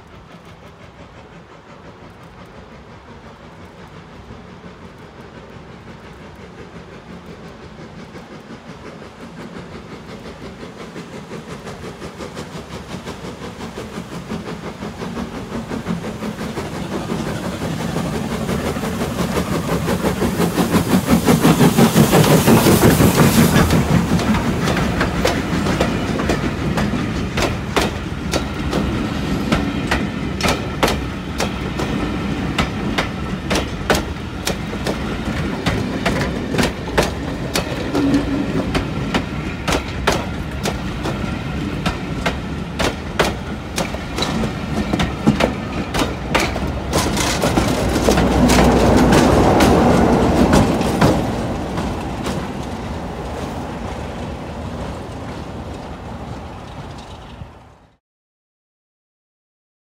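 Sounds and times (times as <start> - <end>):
train rumble: 0.0 - 58.0
train wheels clickety-clack: 0.0 - 58.0.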